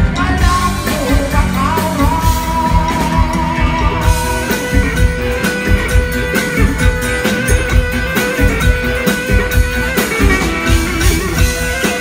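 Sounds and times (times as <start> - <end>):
electric guitar sustained notes: 0.0 - 12.0
steady drum beat: 0.0 - 12.0.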